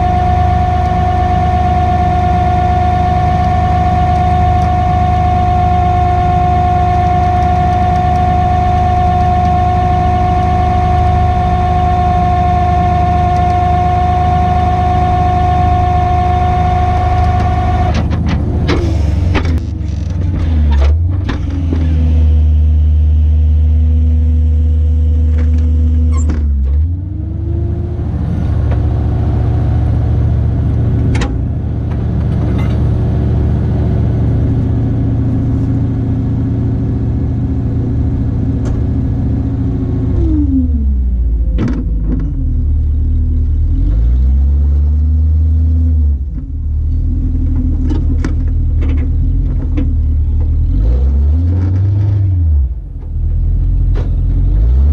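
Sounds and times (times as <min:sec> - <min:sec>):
truck engine revving under load: 0:00.0 - 0:54.9.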